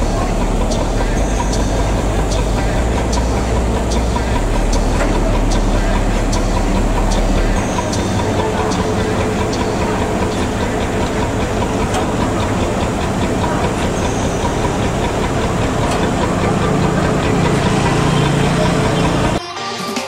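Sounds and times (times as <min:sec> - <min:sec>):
street traffic noise: 0:00.0 - 0:19.4
truck diesel engine drone: 0:00.0 - 0:19.4.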